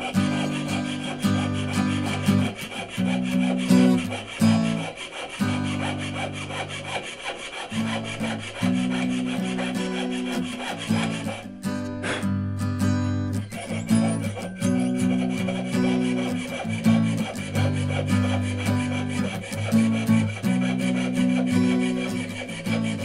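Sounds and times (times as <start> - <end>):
piercing saw cutting metal: 0.0 - 12.5, 13.2 - 23.0.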